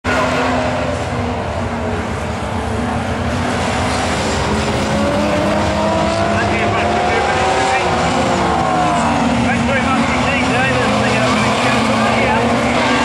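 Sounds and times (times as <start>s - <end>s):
race car engines running: 0.1s - 13.0s.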